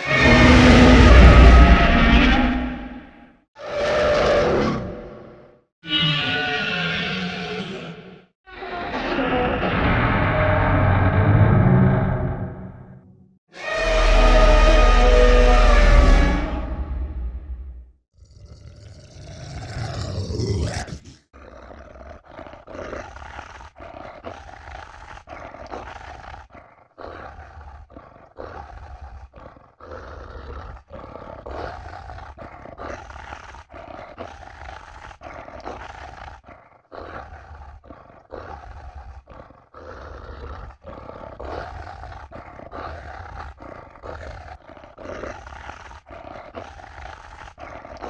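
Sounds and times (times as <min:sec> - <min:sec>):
monster growls and snarls: 0:00.0 - 0:12.8, 0:13.6 - 0:48.0.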